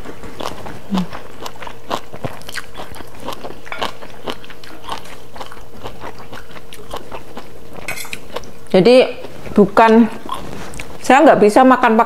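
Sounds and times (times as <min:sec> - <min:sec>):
people chewing and biting: 0:00.0 - 0:11.0.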